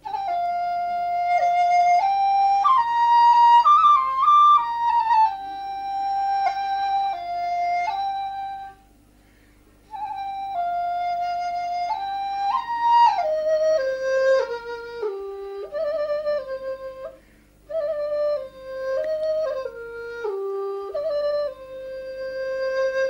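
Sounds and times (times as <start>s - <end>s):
slow flute melody: 0.0s - 9.0s, 9.9s - 23.0s.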